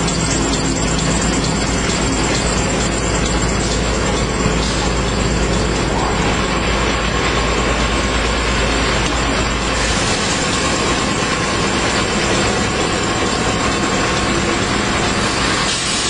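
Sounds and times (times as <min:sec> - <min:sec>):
mechanical din of rollers: 0:00.0 - 0:16.0.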